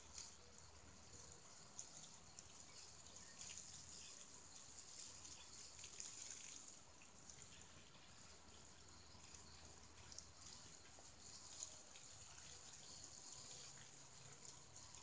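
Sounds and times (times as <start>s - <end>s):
hose water pouring onto grass: 0.0s - 15.0s.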